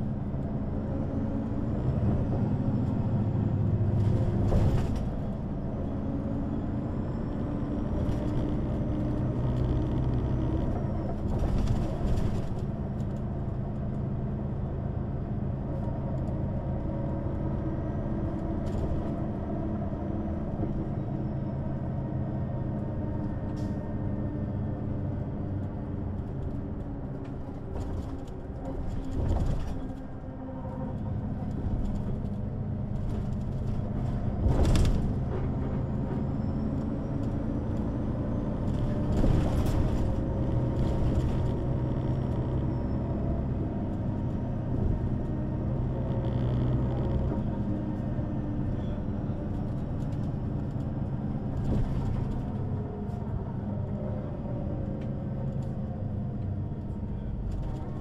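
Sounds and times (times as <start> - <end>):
bus diesel engine pulling: 0.0 - 58.0.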